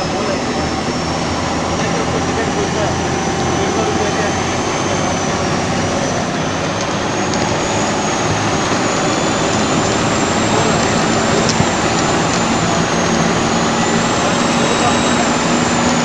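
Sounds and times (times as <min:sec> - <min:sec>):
diesel bus engine drone: 0:00.0 - 0:16.0
turbocharger whistle: 0:00.0 - 0:16.0.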